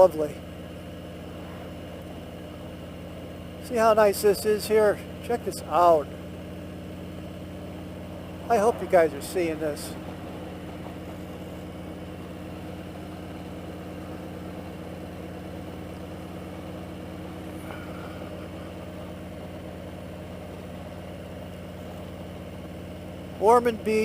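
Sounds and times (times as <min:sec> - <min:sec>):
motorcycle engine running steadily: 0:00.0 - 0:24.0.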